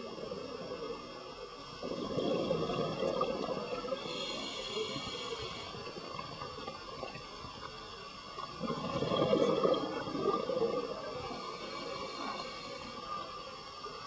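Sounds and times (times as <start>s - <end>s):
underwater exhaust bubbles: 0.0s - 14.0s.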